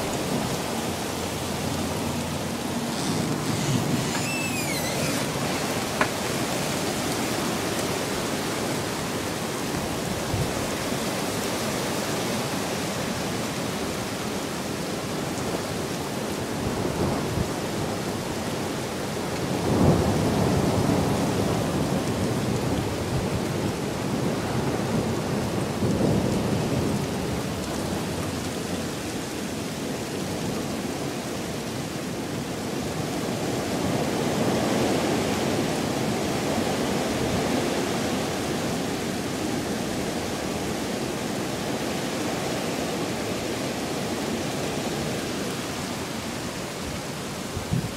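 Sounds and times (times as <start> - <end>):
rain falling steadily: 0.0 - 47.9.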